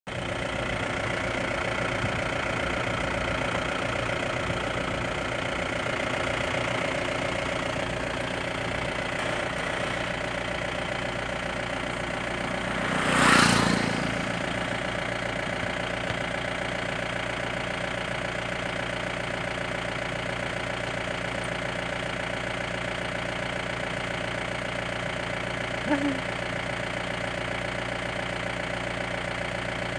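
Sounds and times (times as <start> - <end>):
vehicle engine idling: 0.1 - 29.9.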